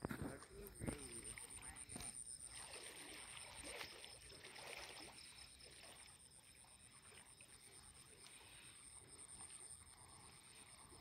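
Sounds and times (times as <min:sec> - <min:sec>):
river water stirring: 0:00.4 - 0:11.0.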